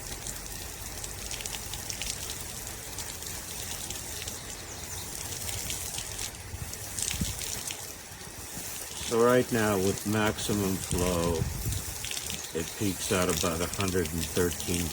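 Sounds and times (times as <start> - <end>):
shower water spraying: 0.0 - 14.9.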